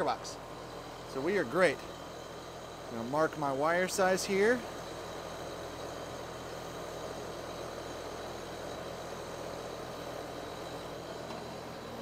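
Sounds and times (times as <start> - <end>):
air conditioner fan and airflow: 0.0 - 12.0.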